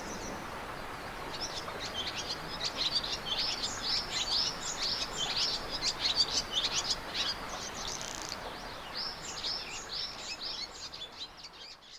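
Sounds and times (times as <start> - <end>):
stream rushing: 0.0 - 11.0
songbirds singing: 0.0 - 11.9.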